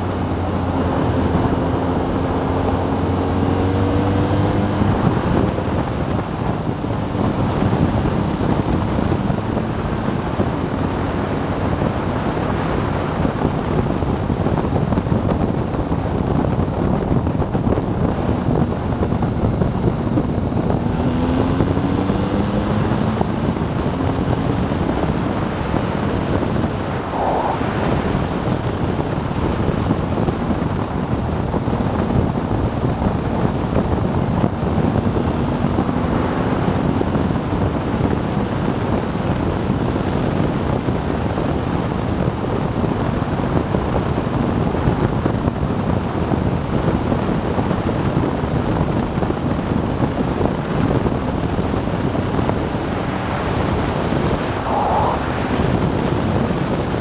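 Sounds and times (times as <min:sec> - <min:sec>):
faint motorcycle engine drone: 0:00.0 - 0:57.0
wind buffeting microphone: 0:00.0 - 0:57.0.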